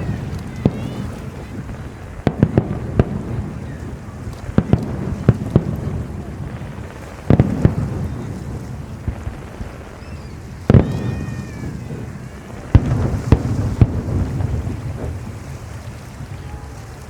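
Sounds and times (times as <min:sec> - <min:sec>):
fireworks cracking and booming: 0:00.0 - 0:17.0.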